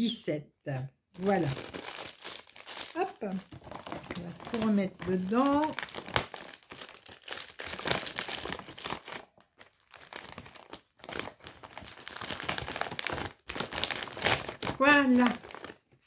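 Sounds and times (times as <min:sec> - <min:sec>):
plastic bags crinkling: 0:01.2 - 0:16.0.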